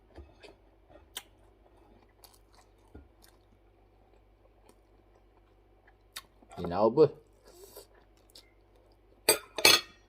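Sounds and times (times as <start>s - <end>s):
faint chewing of food: 0.0s - 6.6s, 7.2s - 9.3s.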